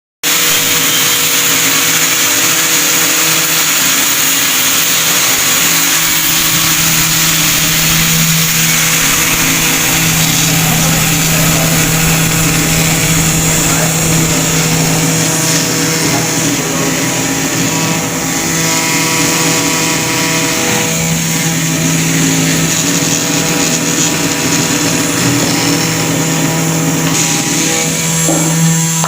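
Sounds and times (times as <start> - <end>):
machine motor hum: 0.3 - 29.0.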